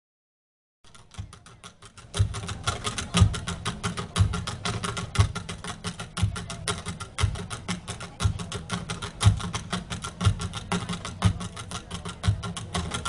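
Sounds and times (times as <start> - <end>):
deep drum strokes: 0.9 - 13.0
fast drum patter: 0.9 - 13.0.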